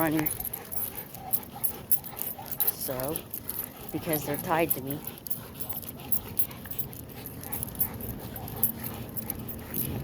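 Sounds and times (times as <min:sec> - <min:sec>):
large dog whimpering: 0:00.0 - 0:10.0
small clicks and rustles: 0:00.0 - 0:10.0.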